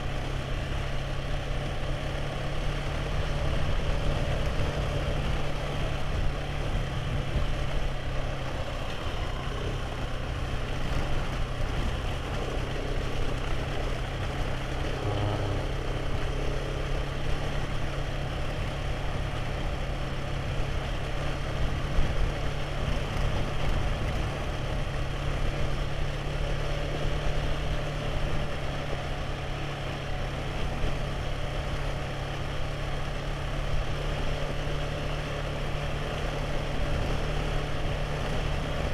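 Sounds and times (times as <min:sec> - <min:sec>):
motorcycle engine drone: 0:00.0 - 0:38.9
wind and road noise: 0:00.0 - 0:38.9.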